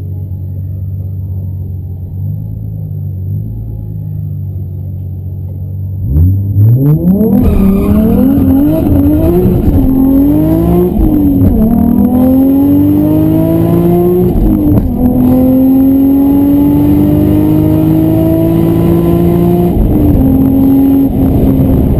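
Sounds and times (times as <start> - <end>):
car engine accelerating: 0.0 - 21.9.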